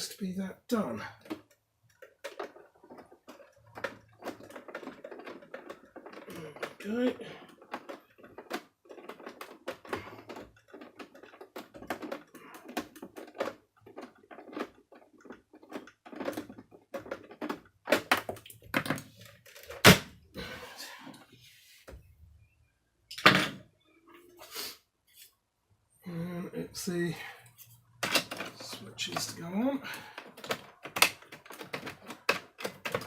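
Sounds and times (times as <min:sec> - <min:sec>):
plastic parts clicking and tapping: 0:00.8 - 0:21.3, 0:26.8 - 0:33.0.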